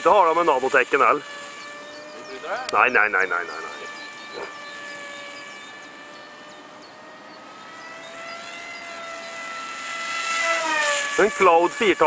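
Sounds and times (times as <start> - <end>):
model airplane engine whine: 0.0 - 12.0.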